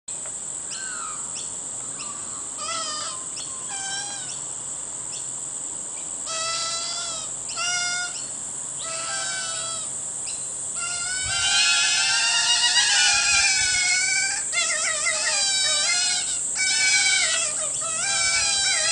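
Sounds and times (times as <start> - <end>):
fledgling birds begging calls: 0.6 - 4.5, 6.0 - 18.9.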